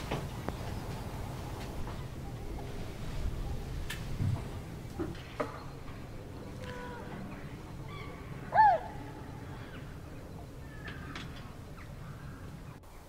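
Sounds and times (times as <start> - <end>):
birds calling: 0.0 - 13.0
low background rumble: 0.0 - 13.0.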